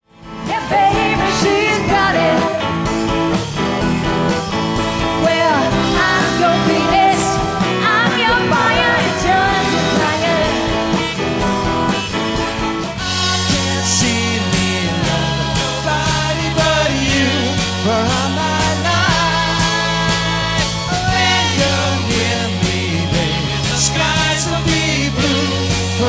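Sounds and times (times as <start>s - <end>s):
pop-rock band playing: 0.0s - 26.0s
lead vocal singing: 0.4s - 11.2s, 13.0s - 26.0s.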